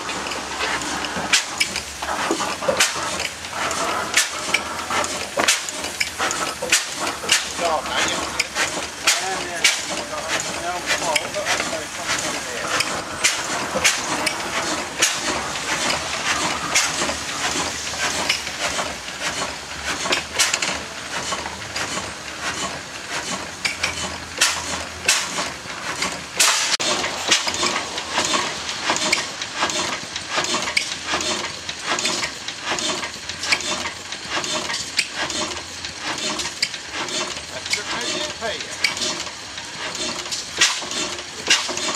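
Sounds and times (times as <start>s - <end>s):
old oil engine clattering: 0.0s - 41.9s.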